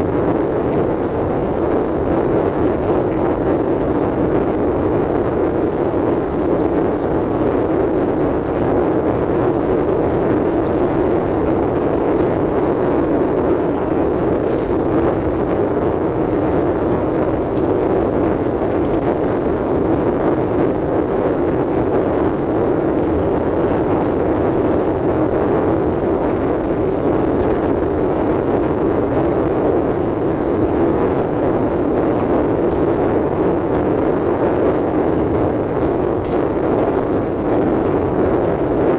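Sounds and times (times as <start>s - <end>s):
car interior road and engine noise: 0.0s - 38.9s.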